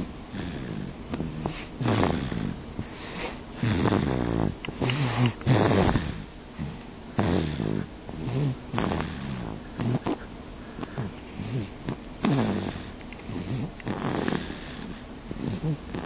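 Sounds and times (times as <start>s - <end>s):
baby snoring: 0.3s - 16.0s.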